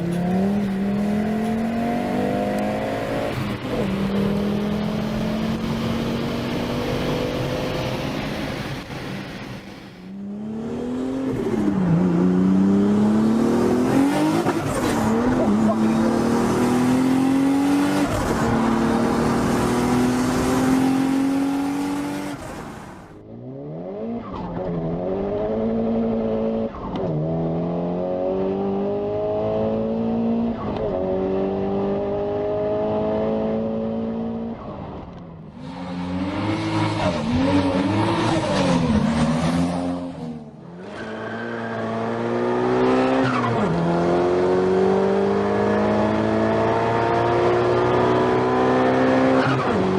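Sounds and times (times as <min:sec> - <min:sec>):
car engine accelerating: 0:00.0 - 0:09.3, 0:10.1 - 0:49.9.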